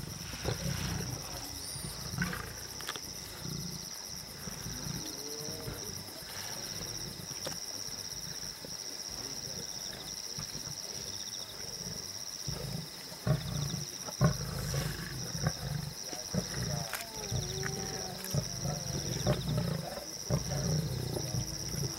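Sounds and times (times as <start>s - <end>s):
lions growling and snarling: 0.0s - 21.9s.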